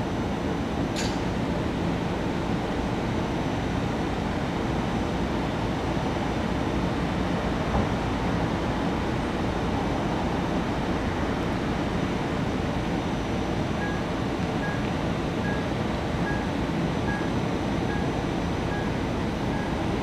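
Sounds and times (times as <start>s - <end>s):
train equipment rumble and hum: 0.0s - 20.0s.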